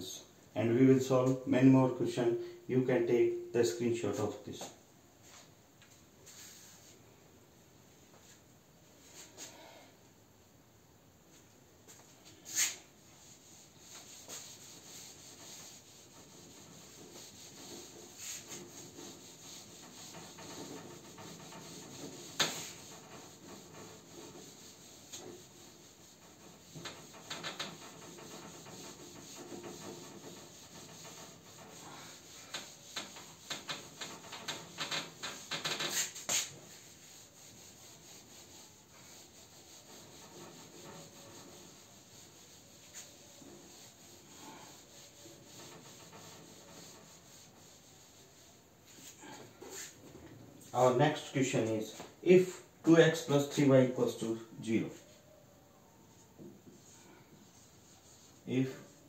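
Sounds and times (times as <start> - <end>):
duster wiping whiteboard: 6.2 - 7.0, 11.3 - 55.3, 56.1 - 59.0.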